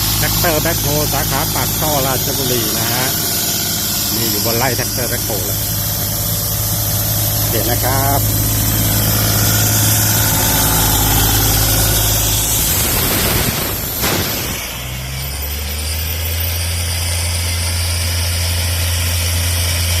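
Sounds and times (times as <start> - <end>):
diesel air compressor running: 0.0 - 20.0.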